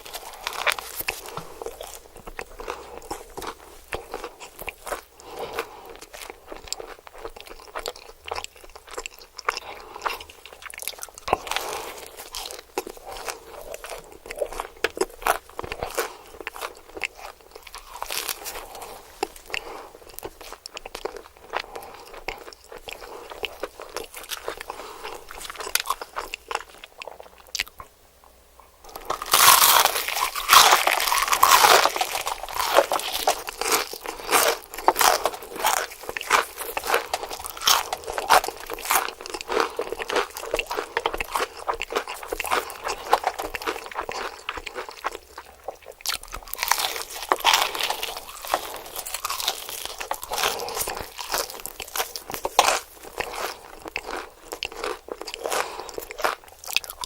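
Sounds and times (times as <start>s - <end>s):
chewing and crunching fried chicken: 0.0s - 57.0s.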